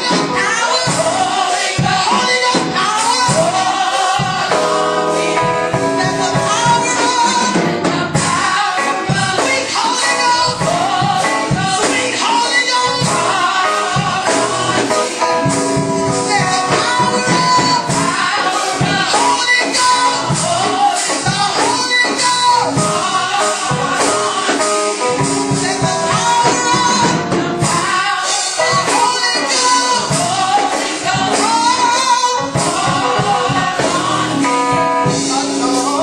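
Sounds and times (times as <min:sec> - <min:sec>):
musical accompaniment with beat: 0:00.0 - 0:36.0
women singing gospel: 0:00.0 - 0:36.0.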